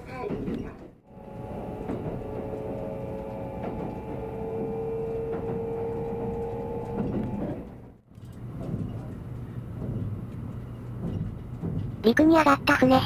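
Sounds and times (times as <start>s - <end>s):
train running with motor tones: 0.0s - 13.0s.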